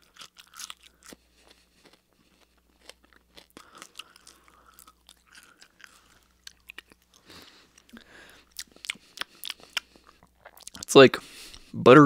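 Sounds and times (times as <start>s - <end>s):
person chewing crunchy food: 0.0s - 10.9s.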